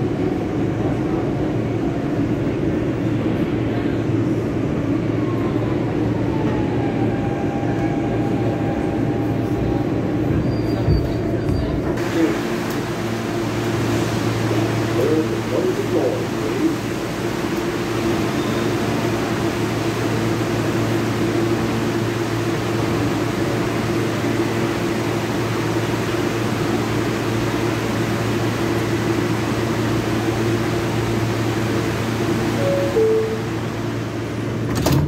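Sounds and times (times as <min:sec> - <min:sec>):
subway car low hum: 0:00.0 - 0:35.0
subway car rushing noise: 0:00.0 - 0:35.0.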